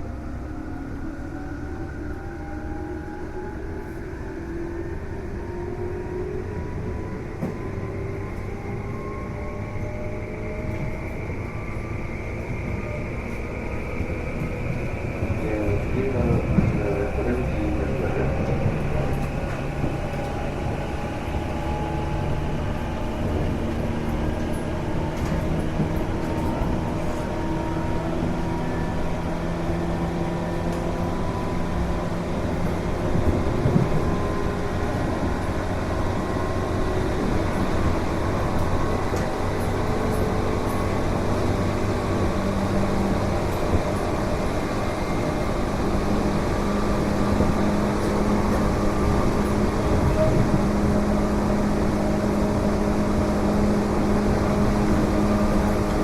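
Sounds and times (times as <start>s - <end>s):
constant abnormal noise: 0.0s - 56.0s
wheel and rail rumble: 0.0s - 56.0s.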